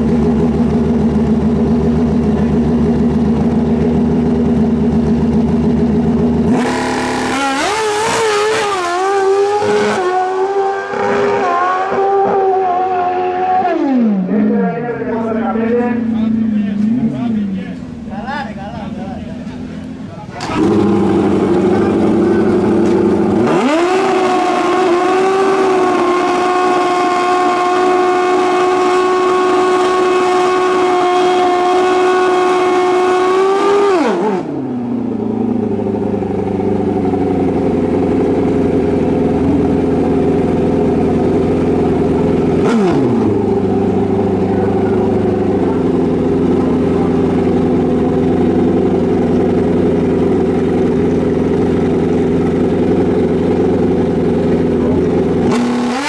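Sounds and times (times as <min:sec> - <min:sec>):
motorcycle engine revving: 0:00.0 - 0:18.2, 0:19.0 - 0:56.0.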